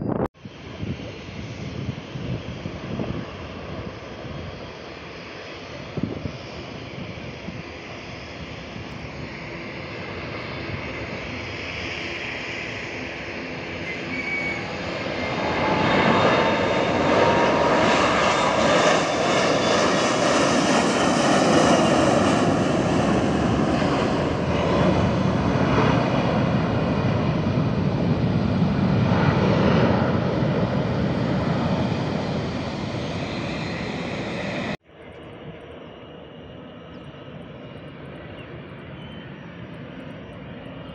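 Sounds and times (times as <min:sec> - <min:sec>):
distant jet engine: 0:00.0 - 0:40.9
jet engines at takeoff: 0:00.0 - 0:40.9.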